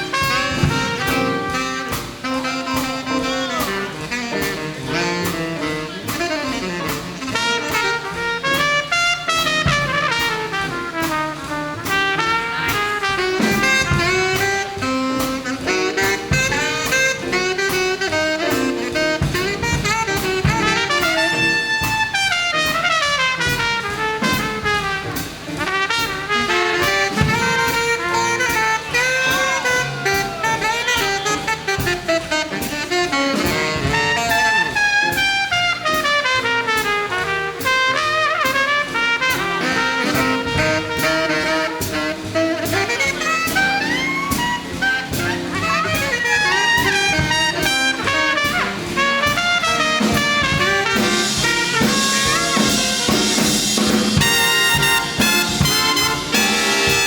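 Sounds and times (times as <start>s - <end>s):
big band swing music: 0.0s - 57.0s.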